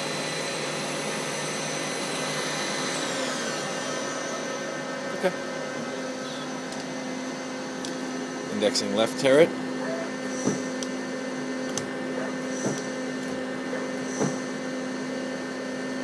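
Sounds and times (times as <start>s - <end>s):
lathe spindle whine: 0.0s - 16.0s.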